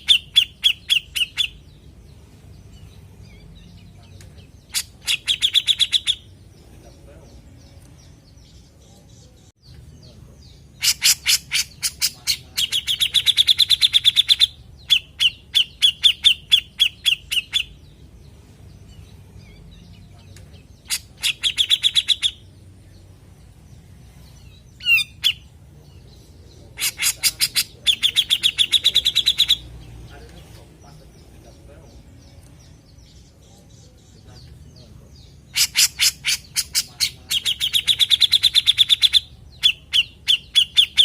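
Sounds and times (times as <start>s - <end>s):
bulbul singing: 0.0s - 41.0s.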